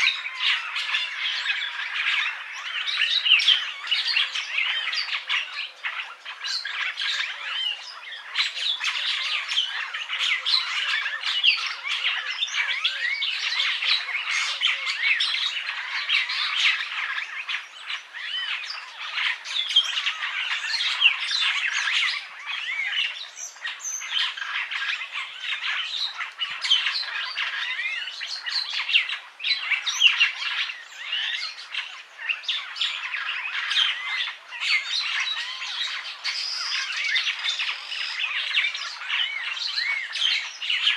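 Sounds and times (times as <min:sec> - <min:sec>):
starling squawking and chattering: 0:00.0 - 0:40.9.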